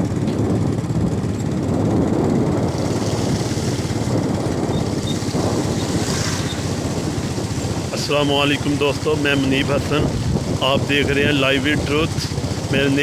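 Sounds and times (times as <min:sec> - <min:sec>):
small engine rumbling: 0:00.0 - 0:13.0
wind noise on microphone: 0:00.0 - 0:13.0.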